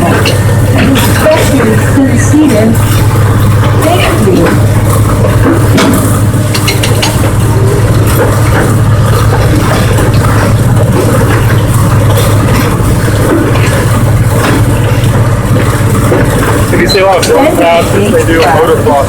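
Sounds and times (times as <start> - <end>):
locomotive engine droning: 0.0 - 19.0
train cars clicking on track: 0.0 - 19.0.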